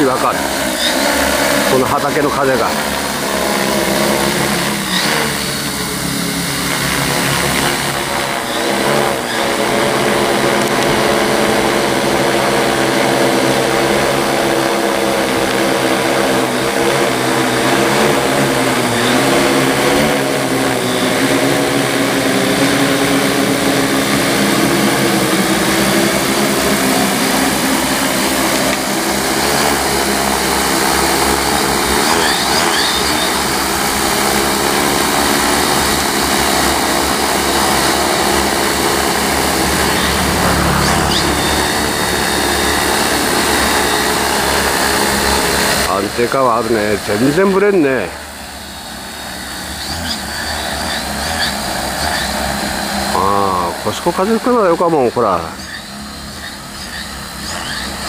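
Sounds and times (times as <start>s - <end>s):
drone rotors droning: 0.0s - 58.0s.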